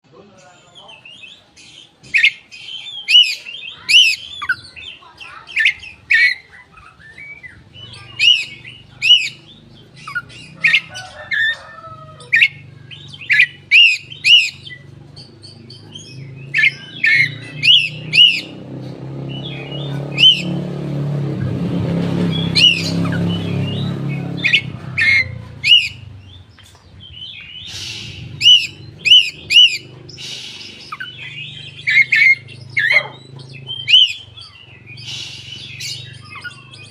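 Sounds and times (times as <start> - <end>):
bird calling high chirps: 0.4 - 20.7, 22.2 - 36.9.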